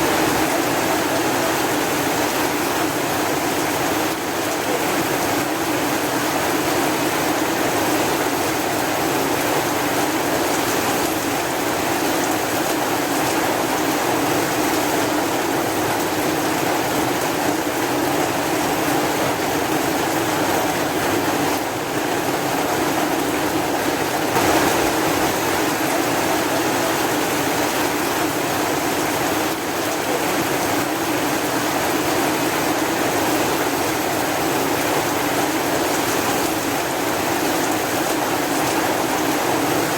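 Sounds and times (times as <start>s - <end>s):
heavy rain hissing: 0.0s - 34.8s.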